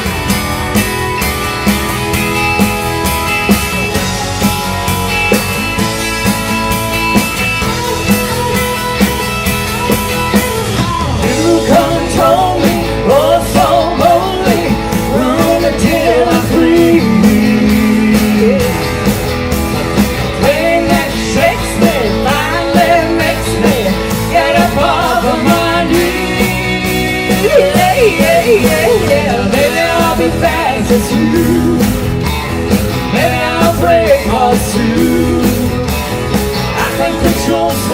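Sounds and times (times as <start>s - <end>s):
lead guitar bending notes: 0.0s - 37.2s
bass guitar: 0.0s - 37.9s
steady drum beat: 0.0s - 37.9s.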